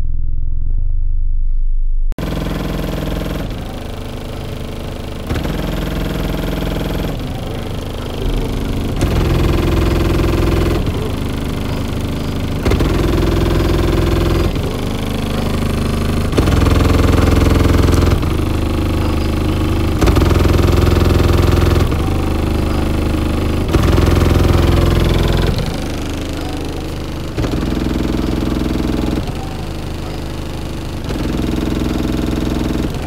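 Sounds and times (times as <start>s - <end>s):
bass-heavy music through subwoofer: 0.0s - 33.0s.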